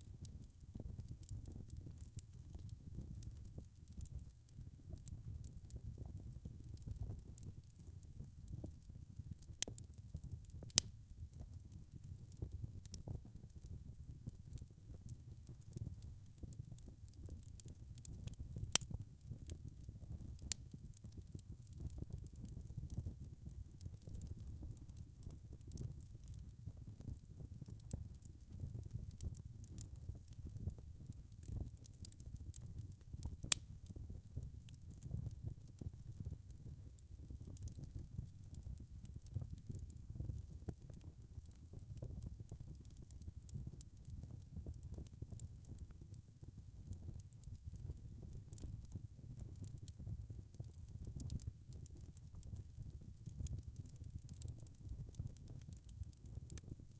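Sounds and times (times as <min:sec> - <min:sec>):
fire popping and snapping: 0:00.1 - 0:56.9
wood fire crackling: 0:00.1 - 0:56.9.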